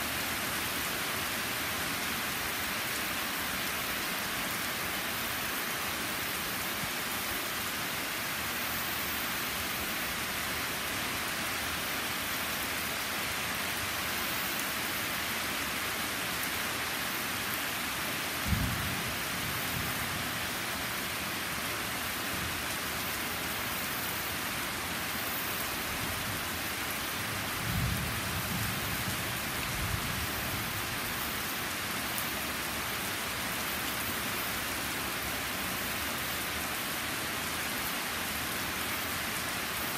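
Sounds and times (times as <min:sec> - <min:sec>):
heavy rain on stone and trees: 0:00.0 - 0:39.9.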